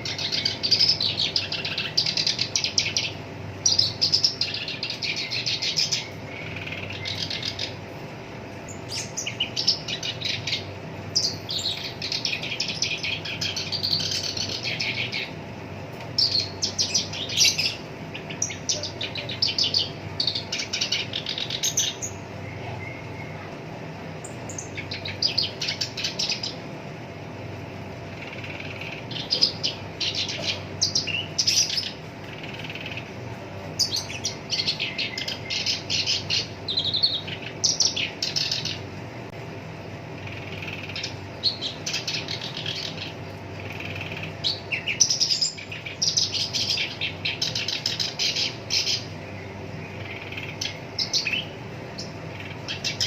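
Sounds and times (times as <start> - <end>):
bird singing rough chattering notes: 0.0 - 7.9, 8.6 - 23.4, 24.2 - 26.6, 28.1 - 33.2, 33.8 - 38.9, 40.1 - 53.0
faint steady hum: 0.0 - 53.0.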